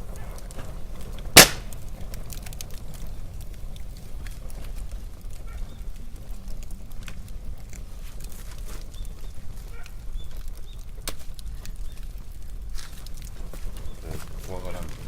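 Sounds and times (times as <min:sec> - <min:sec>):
wood crackling and popping: 0:00.0 - 0:15.0.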